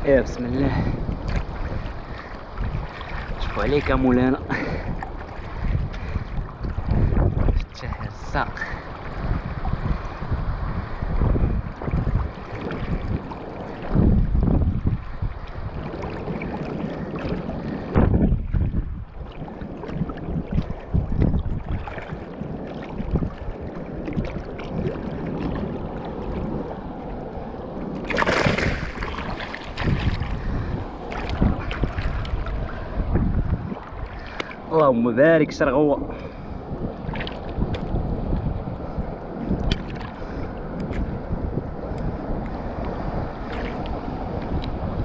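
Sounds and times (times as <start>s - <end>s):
water sloshing around float: 0.0s - 10.2s, 11.6s - 35.2s, 36.0s - 38.6s, 39.4s - 41.1s, 42.8s - 44.7s
wind buffeting microphone: 0.0s - 45.0s.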